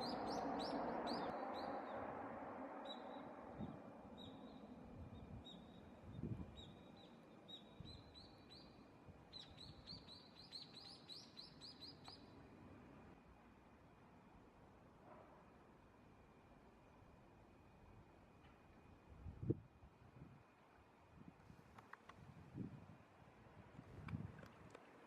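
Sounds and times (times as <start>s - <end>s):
background noise: 0.0s - 25.0s.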